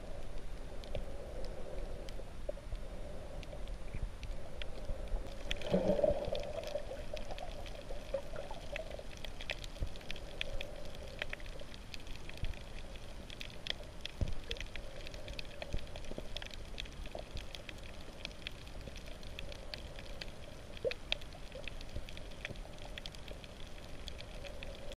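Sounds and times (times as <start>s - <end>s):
faint clicks and crackles: 0.0s - 25.0s
low underwater noise: 0.0s - 25.0s.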